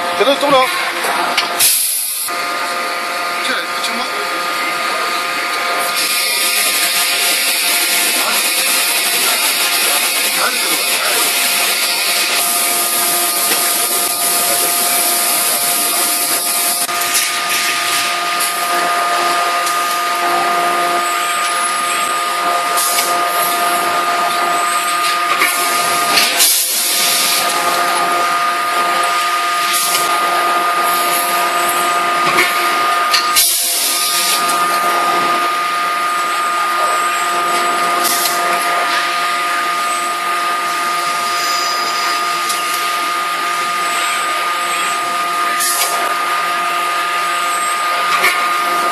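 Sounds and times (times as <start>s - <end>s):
machine hum with hiss: 0.0s - 48.9s.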